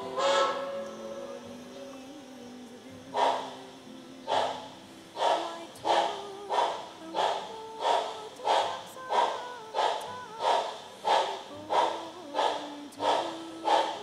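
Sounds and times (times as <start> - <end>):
faint steady tones: 0.0 - 14.0.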